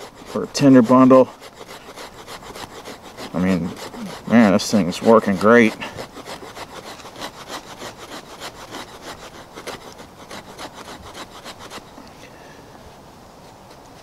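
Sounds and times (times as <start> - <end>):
knife scraping along wood: 0.0 - 12.2, 13.4 - 14.0.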